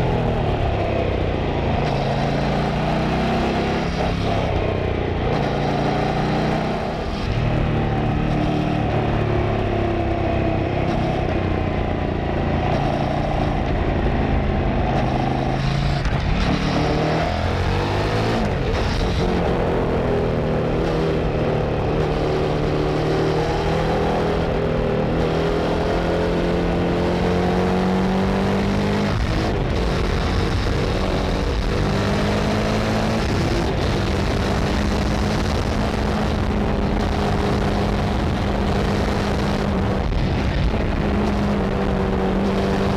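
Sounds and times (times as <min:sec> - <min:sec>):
motorcycle engine riding: 0:00.0 - 0:42.9.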